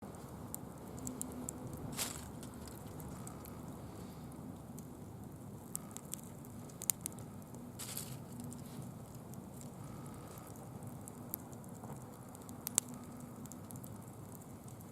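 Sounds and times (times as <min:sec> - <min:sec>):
bonfire crackling: 0:00.0 - 0:14.9.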